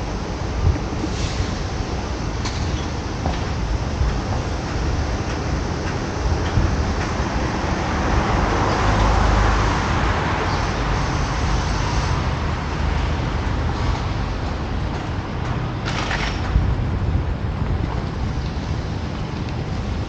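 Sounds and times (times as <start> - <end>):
road traffic noise: 0.0 - 20.0
wind on microphone: 0.0 - 20.0.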